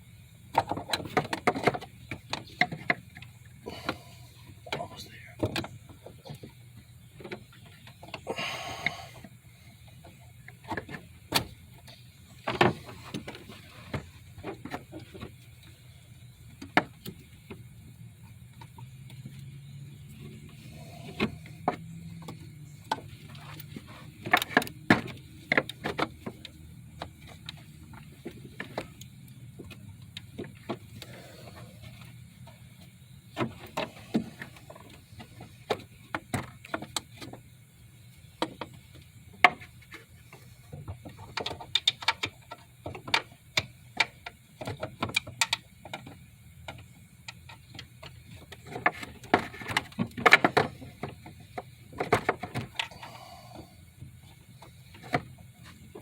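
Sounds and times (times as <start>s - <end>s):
steady low hum: 0.0s - 44.6s, 45.3s - 56.0s.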